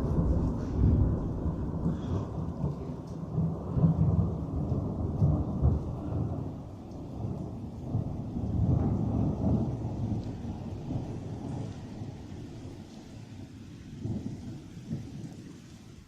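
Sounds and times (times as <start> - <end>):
rain: 0.0 - 16.0
thunder rumbling: 0.0 - 16.0.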